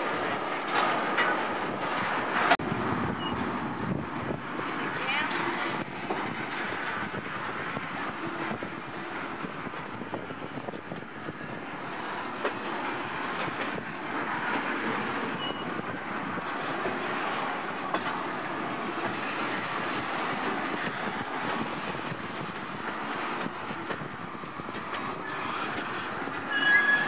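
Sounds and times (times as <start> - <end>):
train wheels on rails: 0.0 - 27.0.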